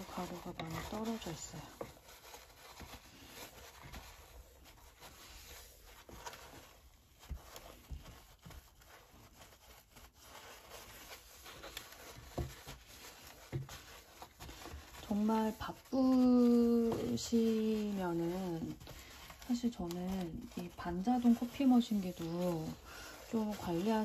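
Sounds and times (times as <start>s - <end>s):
coffee grounds swept onto paper: 0.0s - 24.0s
tissue wiping plastic: 0.0s - 24.0s.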